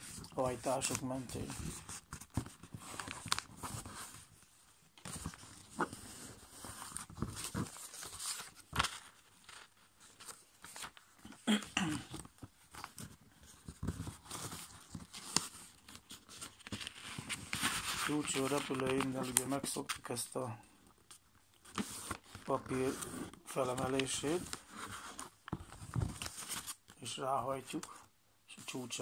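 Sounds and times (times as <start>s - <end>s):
paper creasing clicks and rubs: 0.0s - 11.3s, 12.1s - 20.2s, 21.1s - 28.1s
paper rustling and crinkling: 0.0s - 11.4s, 12.0s - 20.4s, 21.1s - 29.0s.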